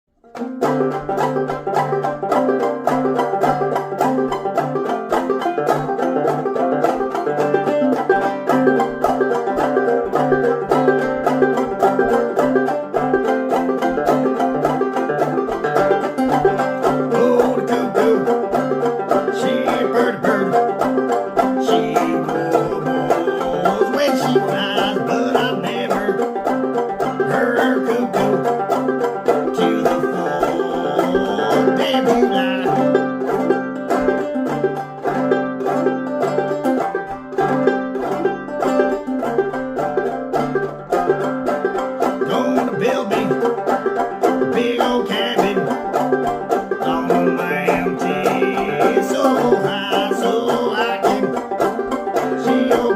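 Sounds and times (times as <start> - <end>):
rapidly picked banjo: 0.0 - 52.9
string instruments: 0.0 - 52.9.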